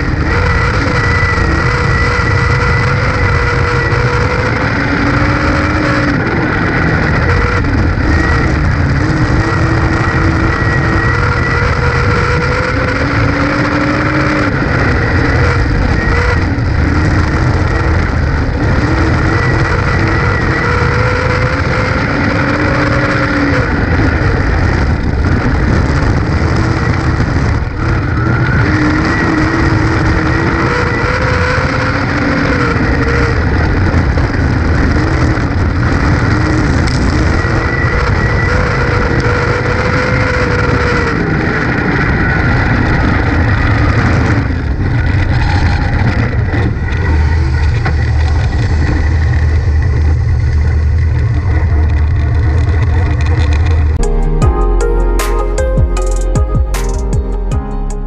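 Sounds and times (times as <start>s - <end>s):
race car engine: 0.0s - 54.8s.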